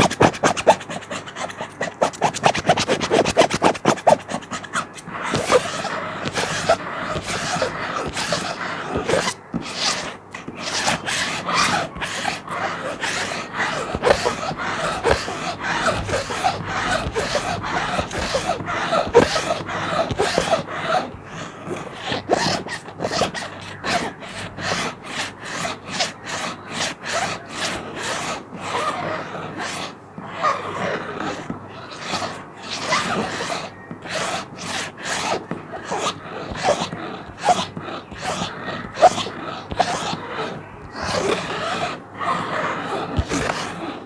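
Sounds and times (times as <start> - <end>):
plastic sheet scratching: 0.0 - 44.0.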